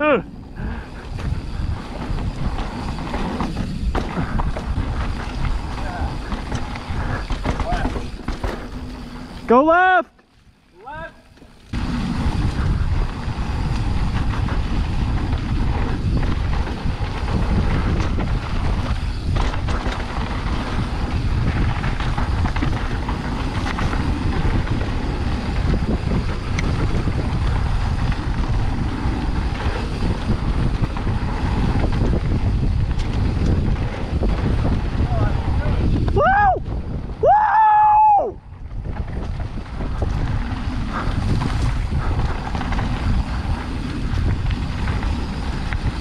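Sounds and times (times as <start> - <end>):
wind buffeting microphone: 0.0 - 9.5, 11.0 - 46.0
bike tyres rolling on dirt: 0.0 - 46.0
bike knocks and rattles: 1.0 - 9.6, 10.9 - 37.4, 38.5 - 46.0.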